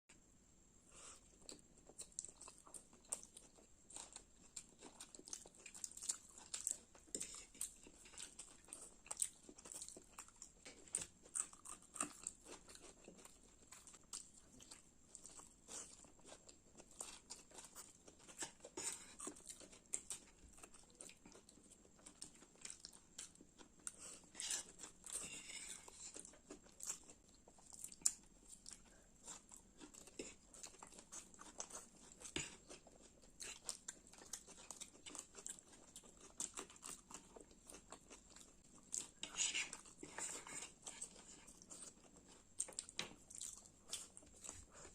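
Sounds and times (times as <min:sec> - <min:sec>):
chewing and biting noodles: 0:01.2 - 0:44.9.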